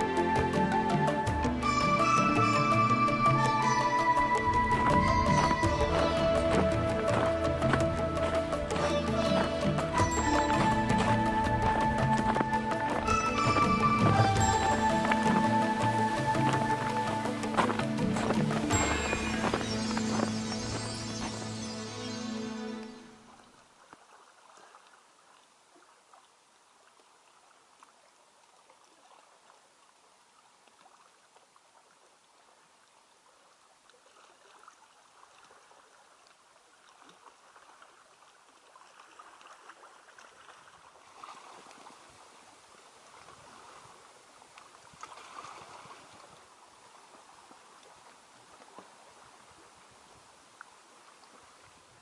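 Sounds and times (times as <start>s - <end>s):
water lapping against rocks: 3.7s - 21.5s, 23.4s - 52.0s.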